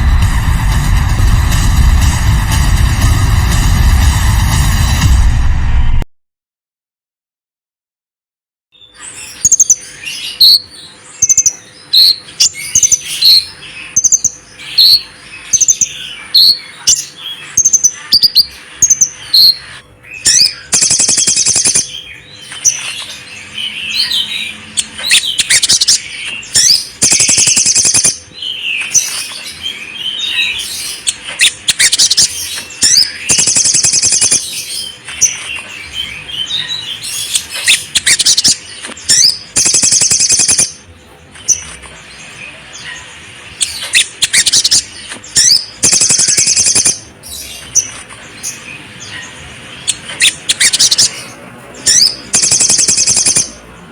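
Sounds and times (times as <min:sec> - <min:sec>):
birds chirping and warbling: 0:08.7 - 0:53.9
songbirds trilling: 0:08.7 - 0:53.9.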